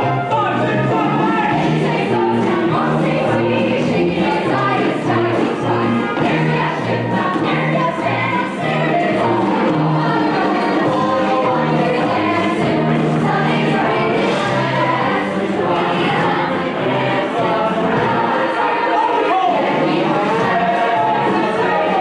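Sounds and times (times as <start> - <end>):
chorus singing show tune: 0.0 - 22.0
instrumental accompaniment: 0.0 - 22.0.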